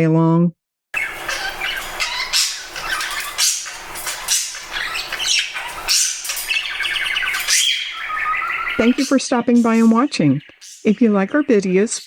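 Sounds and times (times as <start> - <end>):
budgerigar squawks: 1.0 - 10.9
budgerigar chirping: 1.0 - 12.0.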